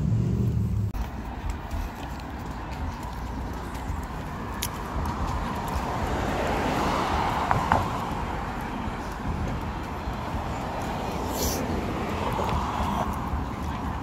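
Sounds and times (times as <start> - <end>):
cars passing on road: 0.0 - 14.0.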